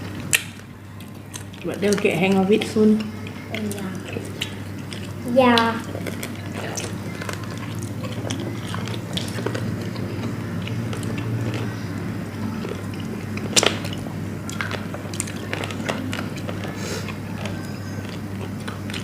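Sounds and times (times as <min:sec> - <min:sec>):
biting and chewing chicken: 0:00.0 - 0:19.0
steady low hum: 0:00.0 - 0:19.0.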